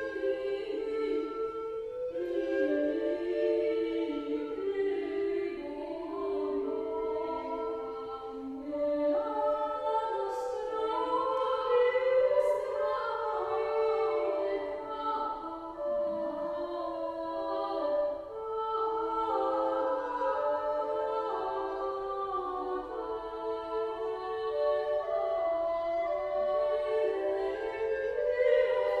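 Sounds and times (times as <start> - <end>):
female voices singing in parts: 0.0 - 1.6, 2.2 - 29.0.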